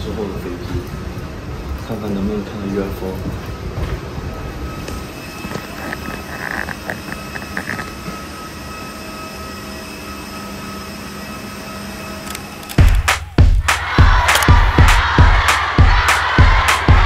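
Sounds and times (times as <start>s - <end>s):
airport machinery drone: 0.0s - 16.9s.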